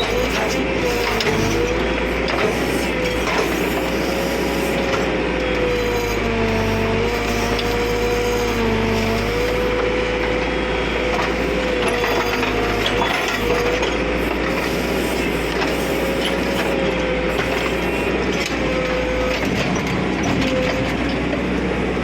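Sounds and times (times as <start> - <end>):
diesel engine with wavering whine: 0.0 - 22.0.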